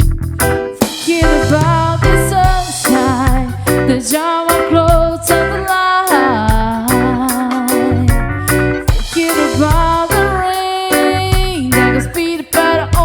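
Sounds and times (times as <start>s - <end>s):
reggae band playing live: 0.0s - 13.0s
sliding lead melody: 0.0s - 13.0s.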